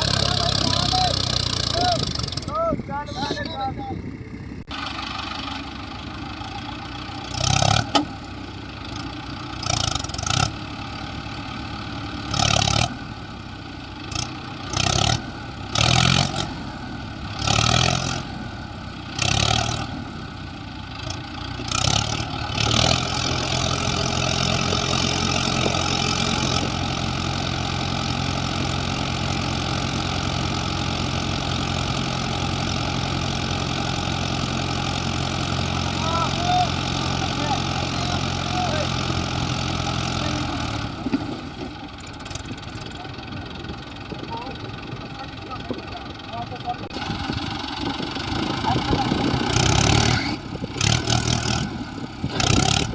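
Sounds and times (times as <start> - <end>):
heavy diesel engine revving: 0.0 - 52.9.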